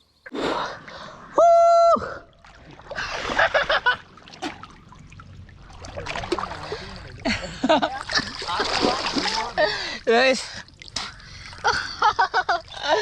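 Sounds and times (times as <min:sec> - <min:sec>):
splashing in mud and water: 0:02.2 - 0:13.0.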